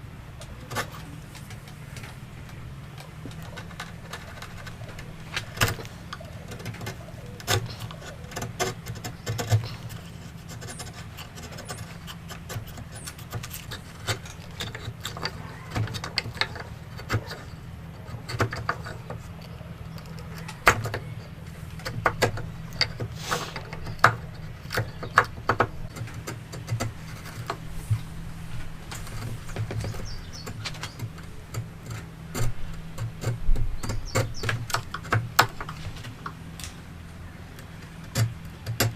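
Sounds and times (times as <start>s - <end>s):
hand tools tapping on wood: 0.4s - 38.9s.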